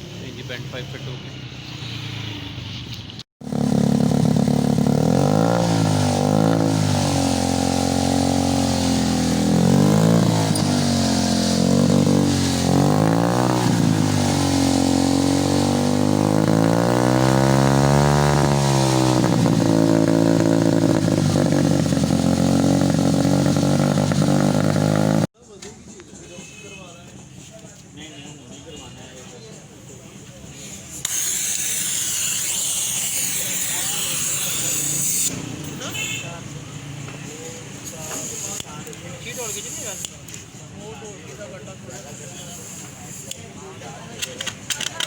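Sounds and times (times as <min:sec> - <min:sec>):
motorcycle engine idling and revving: 0:00.0 - 0:25.3, 0:30.3 - 0:45.0.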